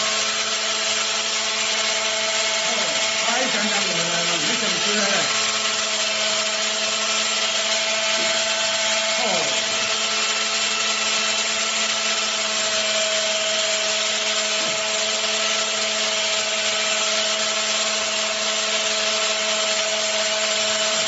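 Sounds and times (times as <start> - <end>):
angle grinder running: 0.0 - 21.0.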